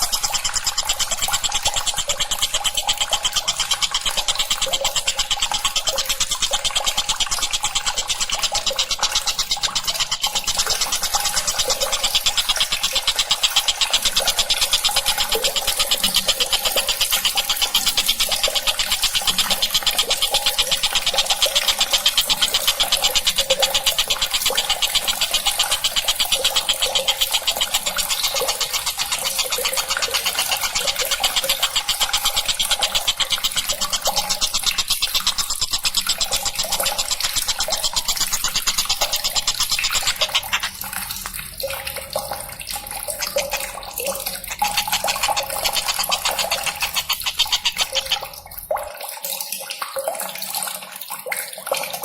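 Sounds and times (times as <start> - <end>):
kingfisher rattling trill: 0.0 - 49.0.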